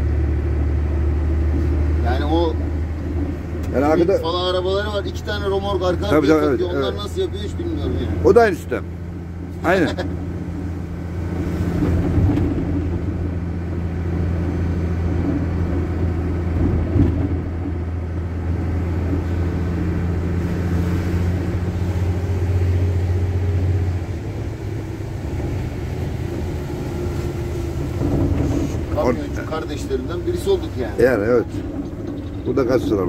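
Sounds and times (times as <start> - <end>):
truck diesel engine drone: 0.0 - 33.0.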